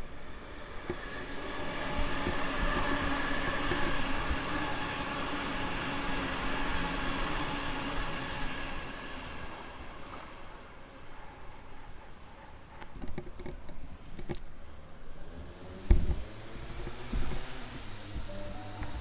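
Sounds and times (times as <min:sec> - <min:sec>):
steady train whine: 0:00.0 - 0:19.0
train passing through station: 0:00.0 - 0:19.0.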